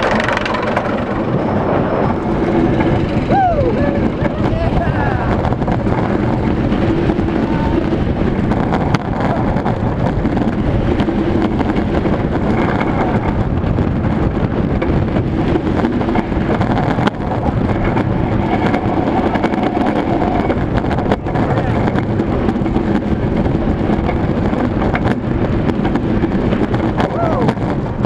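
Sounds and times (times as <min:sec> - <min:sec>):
roller coaster wheels roaring on rail: 0:00.0 - 0:28.0
wind buffeting microphone: 0:00.0 - 0:28.0.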